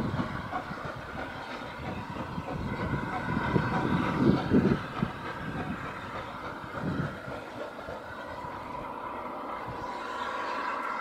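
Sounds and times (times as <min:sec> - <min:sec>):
low clanks and knocks: 0:00.0 - 0:09.0
train rumbling on rails: 0:00.0 - 0:11.0.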